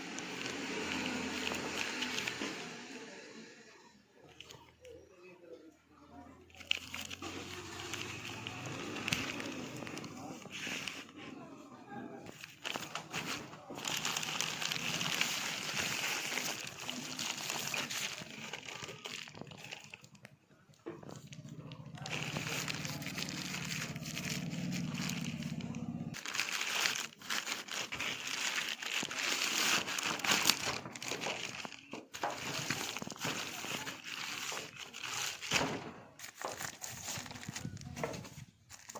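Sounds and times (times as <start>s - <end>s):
plastic packaging crinkling: 0.0s - 2.9s, 6.5s - 11.2s, 12.1s - 38.9s.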